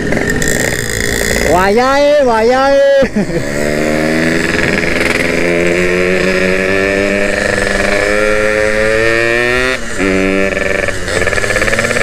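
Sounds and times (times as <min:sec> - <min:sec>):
two-stroke motorcycle engine: 0:00.0 - 0:12.0.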